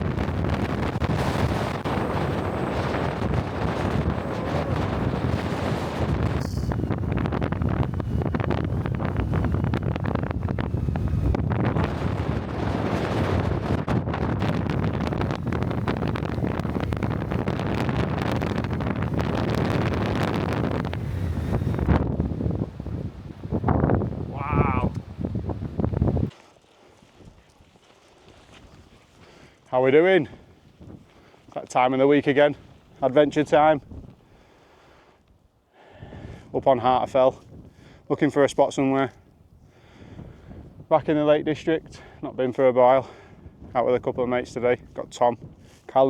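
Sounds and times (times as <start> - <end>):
strong wind gusting on microphone: 0.0 - 26.3, 30.0 - 34.5, 36.0 - 46.0.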